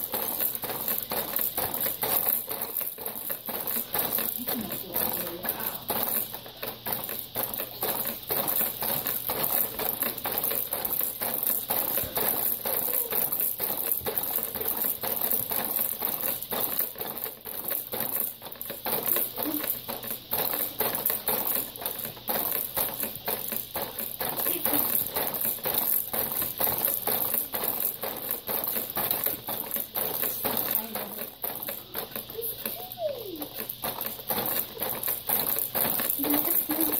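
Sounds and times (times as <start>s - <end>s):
baby jumper clicking and rattling: 0.0s - 36.9s.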